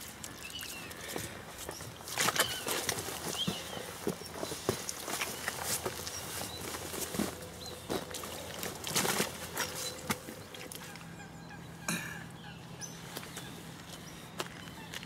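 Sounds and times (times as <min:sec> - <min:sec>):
faint birds calling: 0:00.2 - 0:15.0.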